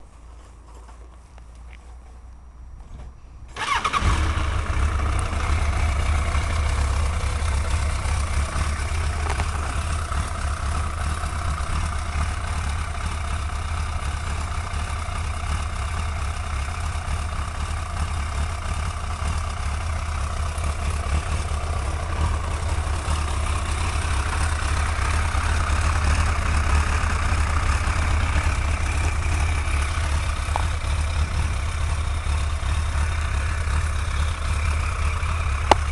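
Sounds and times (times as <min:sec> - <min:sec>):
motorcycle engine starting and idling: 0:00.0 - 0:35.9.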